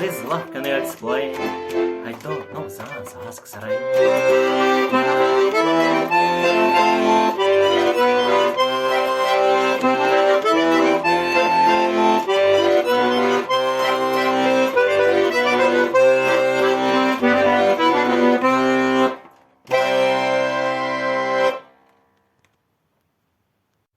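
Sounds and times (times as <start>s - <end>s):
instrumental music: 0.0s - 22.5s.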